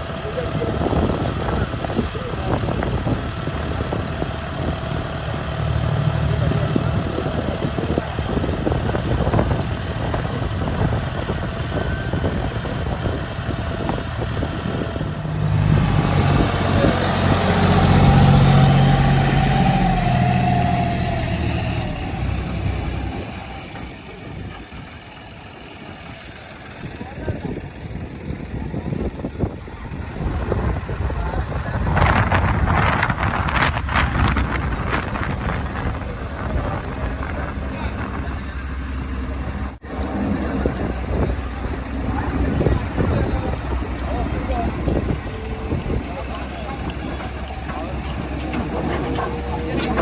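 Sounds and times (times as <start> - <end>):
diesel engine rattling: 0.0 - 50.0.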